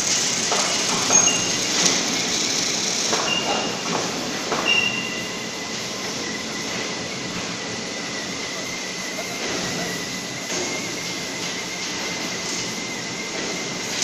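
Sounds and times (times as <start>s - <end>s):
plasma torch hissing: 0.0s - 14.0s.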